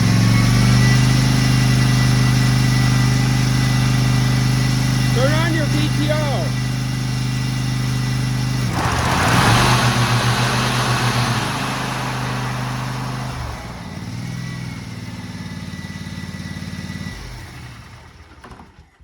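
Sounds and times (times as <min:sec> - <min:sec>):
mower engine running: 0:00.0 - 0:19.0
mower blades whooshing: 0:01.6 - 0:18.2.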